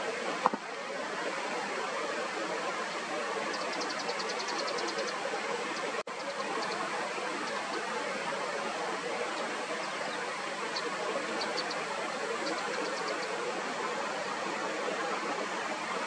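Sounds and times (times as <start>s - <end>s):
rushing outdoor background noise: 0.0s - 16.0s.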